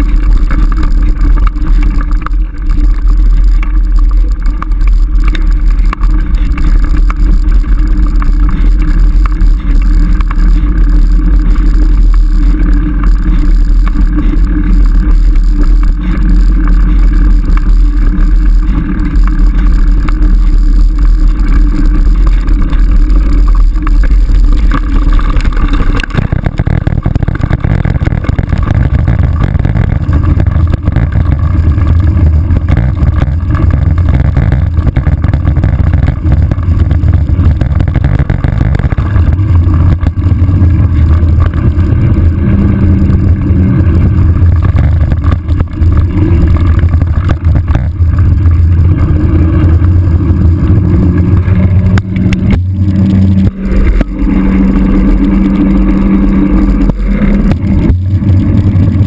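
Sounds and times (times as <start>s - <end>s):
rumble and rattle of dirt bike riding: 0.0s - 59.0s.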